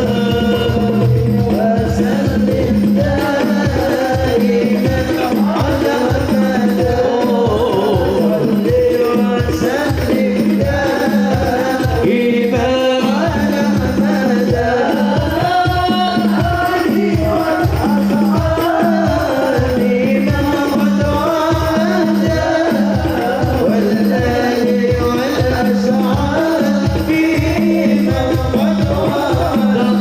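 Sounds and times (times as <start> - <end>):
fast hand drum beat: 0.0 - 30.0
person singing a melody: 0.0 - 30.0.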